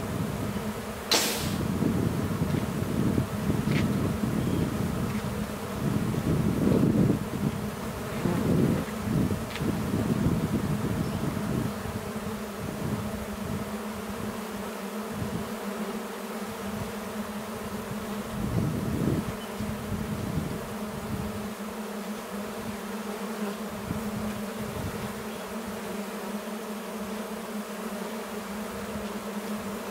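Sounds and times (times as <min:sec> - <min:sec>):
honeybees buzzing: 0:00.0 - 0:29.9.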